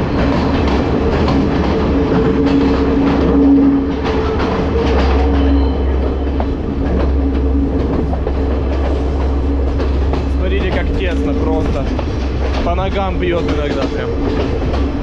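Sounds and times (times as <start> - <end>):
droning tone: 0.0 - 15.0
train low rumble: 0.0 - 15.0
train wheels clattering on rails: 0.0 - 15.0.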